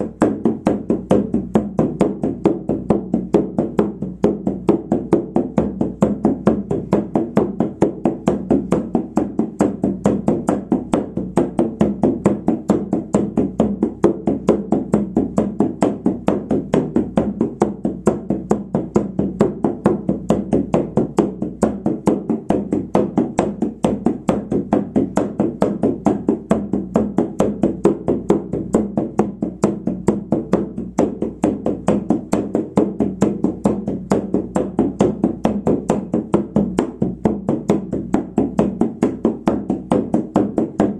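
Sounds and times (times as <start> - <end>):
frame drum beaten steadily: 0.0 - 40.9.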